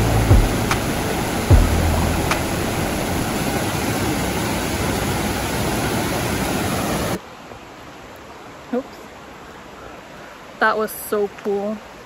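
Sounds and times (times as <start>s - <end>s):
water rushing over rocks: 0.0s - 9.7s.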